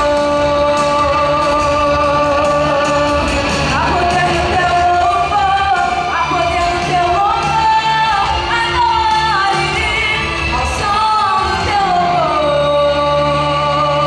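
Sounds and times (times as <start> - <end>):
instrumental accompaniment: 0.0 - 14.0.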